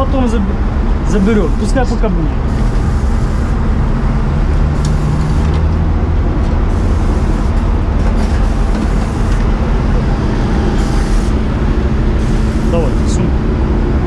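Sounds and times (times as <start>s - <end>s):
fire truck engine droning: 0.0s - 14.0s.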